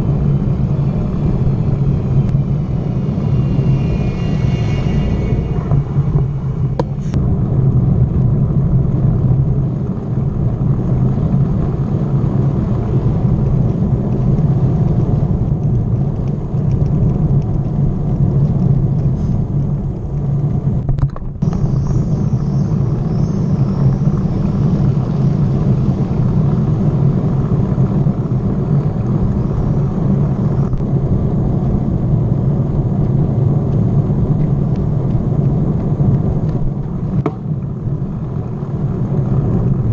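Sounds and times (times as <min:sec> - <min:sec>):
bicycle tyres rolling on road: 0:00.0 - 0:39.9
wind buffeting microphone: 0:00.0 - 0:39.9.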